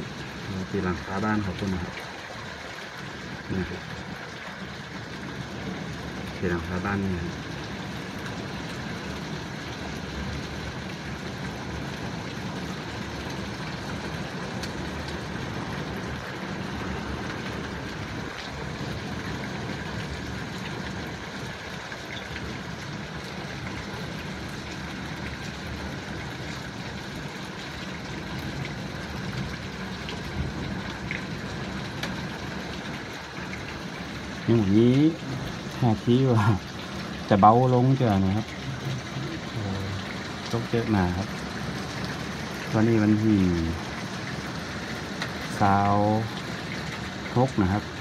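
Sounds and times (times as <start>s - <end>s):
hail and rain on car roof: 0.2s - 48.0s.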